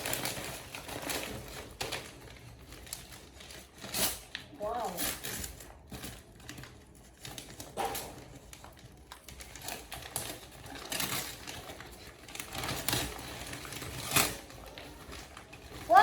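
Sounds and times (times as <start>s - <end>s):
gift packaging rustling and crinkling: 0.0s - 16.0s.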